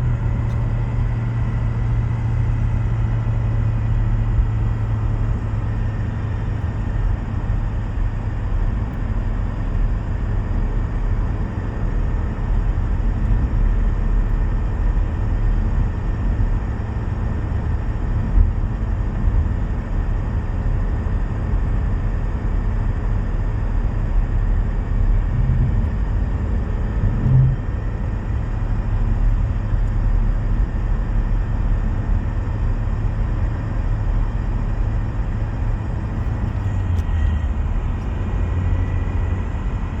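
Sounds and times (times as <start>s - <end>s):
car driving low rumble: 0.0s - 40.0s.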